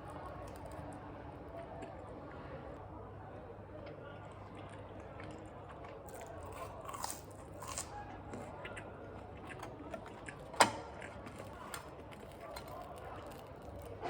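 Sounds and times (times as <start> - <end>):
chewing food crunches: 0.0 - 2.8, 3.8 - 14.0.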